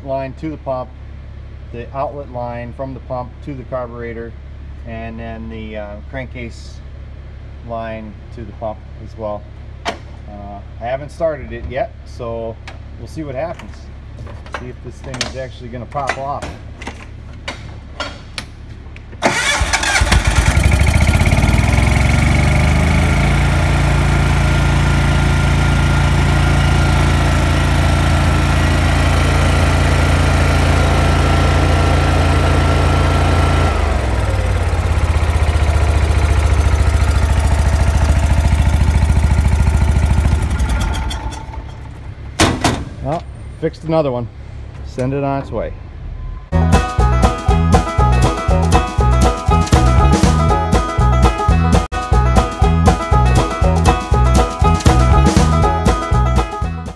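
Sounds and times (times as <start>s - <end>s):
gasoline engine starting and running: 6.9s - 56.9s.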